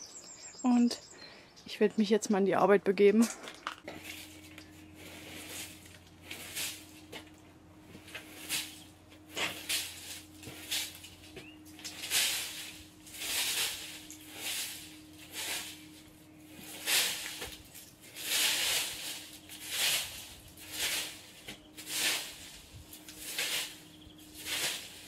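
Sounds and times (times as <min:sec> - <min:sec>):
broom sweeping leaves on paving: 0:03.9 - 0:25.0.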